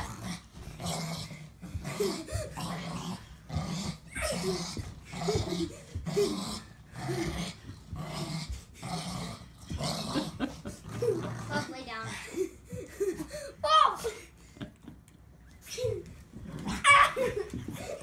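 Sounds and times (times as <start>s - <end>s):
dog play-growling: 0.0s - 13.2s, 15.6s - 18.0s.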